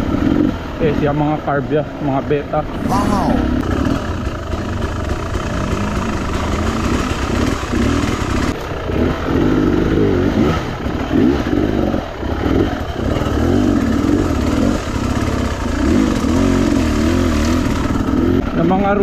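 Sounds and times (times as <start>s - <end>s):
dirt bike engine revving: 2.7s - 19.0s.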